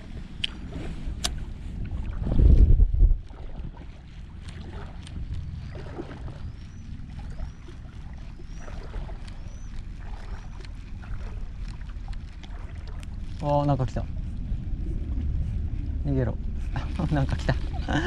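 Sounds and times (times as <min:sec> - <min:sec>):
seawater sloshing and lapping: 0:00.0 - 0:18.0
wind rumbling on microphone: 0:00.0 - 0:18.0.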